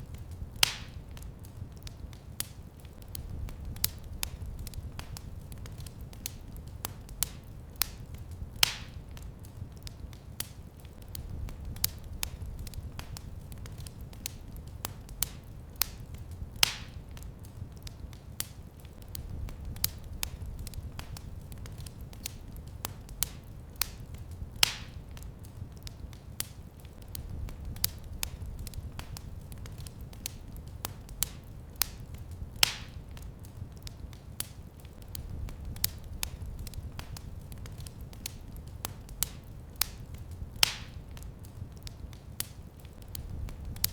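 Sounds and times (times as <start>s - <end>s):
fire crackling: 0.0s - 43.9s.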